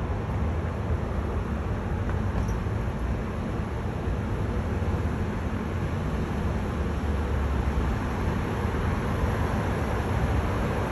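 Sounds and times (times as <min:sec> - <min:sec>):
road traffic rumble: 0:00.0 - 0:10.9.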